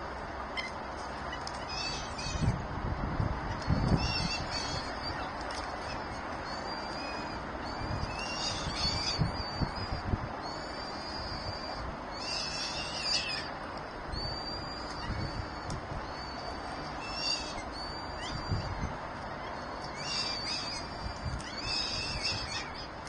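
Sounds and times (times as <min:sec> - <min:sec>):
birds high-pitched calls: 0:00.5 - 0:02.7, 0:03.4 - 0:23.0
birds chattering: 0:00.6 - 0:02.6, 0:03.6 - 0:23.0.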